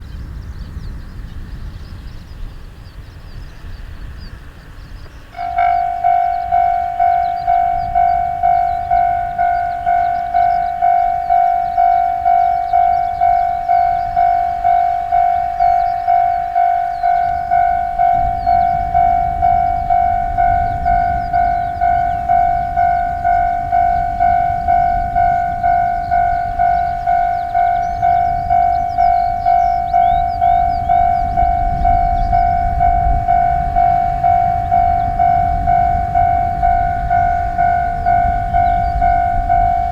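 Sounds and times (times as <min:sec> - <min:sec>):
railcar low rumble: 0:00.0 - 0:39.9
crossing warning bell ringing: 0:05.2 - 0:39.9.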